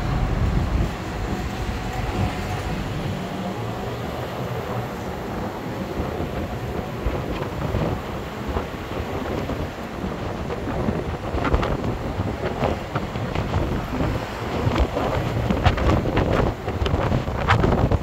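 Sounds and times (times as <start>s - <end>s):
bus rumbling: 0.0s - 18.0s
wind buffeting microphone: 0.0s - 18.0s.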